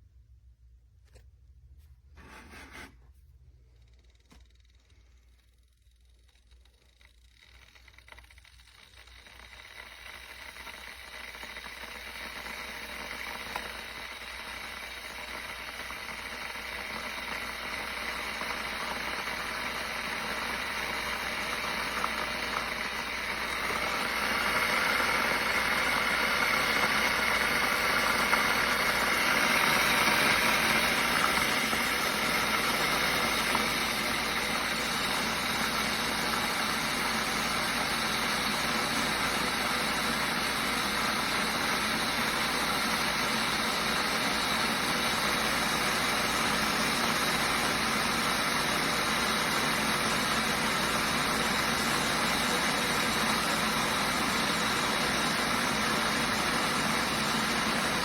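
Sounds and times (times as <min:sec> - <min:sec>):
electric kettle heating water: 0:02.3 - 0:58.0.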